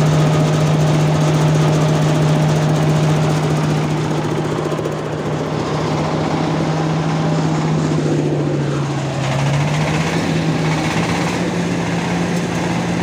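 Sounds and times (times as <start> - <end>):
machine engine humming: 0.0 - 13.0.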